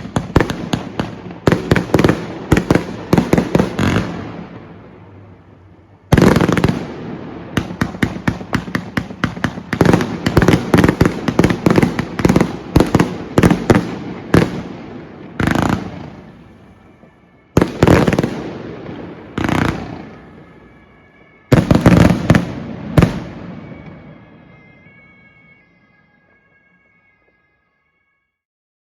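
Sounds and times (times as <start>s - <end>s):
fireworks bangs: 0.0s - 26.6s.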